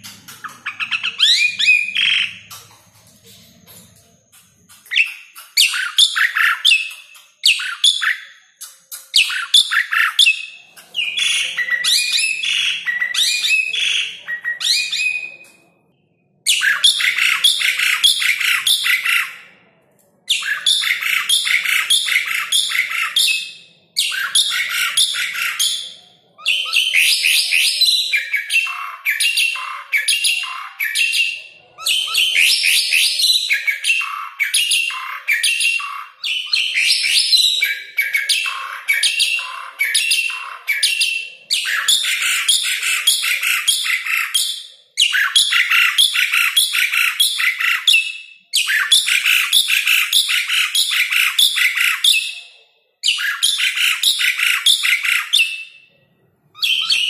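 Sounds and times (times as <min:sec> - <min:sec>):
bird singing scratchy notes: 0:00.0 - 0:52.5.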